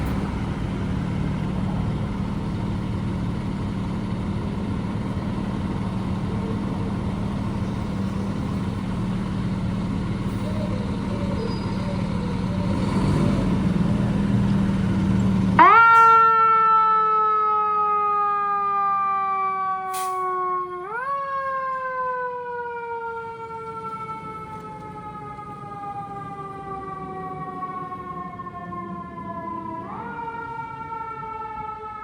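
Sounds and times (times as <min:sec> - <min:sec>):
fire engine siren: 0:00.0 - 0:32.0
fire truck engine humming: 0:00.0 - 0:32.0.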